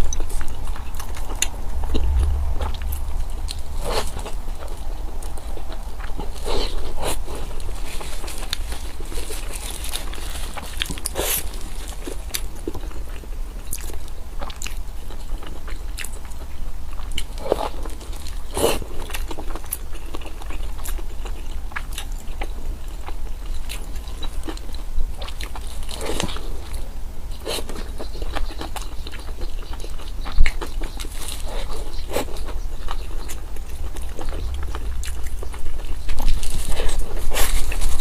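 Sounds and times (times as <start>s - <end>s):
crunchy food chewing: 3.5s - 38.0s.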